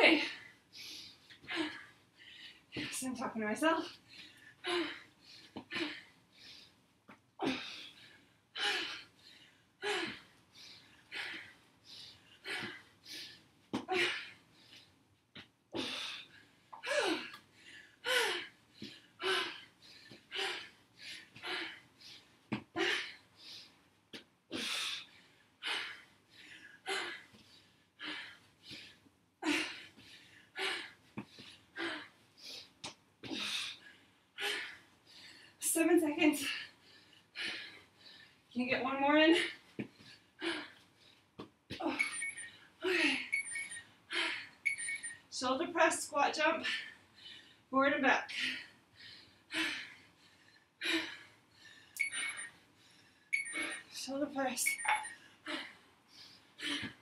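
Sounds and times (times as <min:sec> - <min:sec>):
woman breathing hard: 0:00.2 - 0:03.0, 0:03.9 - 0:06.8, 0:07.4 - 0:15.0, 0:15.7 - 0:23.8, 0:24.5 - 0:35.6, 0:36.4 - 0:38.6, 0:39.4 - 0:45.2, 0:46.6 - 0:47.7, 0:48.3 - 0:54.0, 0:54.7 - 0:57.0.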